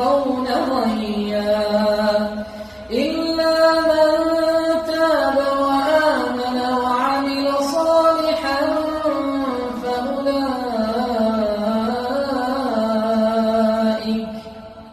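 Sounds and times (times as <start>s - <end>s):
person chanting: 0.0s - 14.9s.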